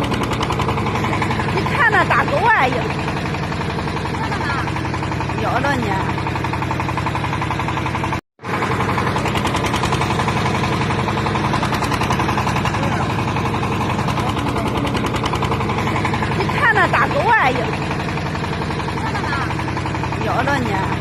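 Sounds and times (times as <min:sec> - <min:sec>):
backhoe engine running: 0:00.0 - 0:21.0.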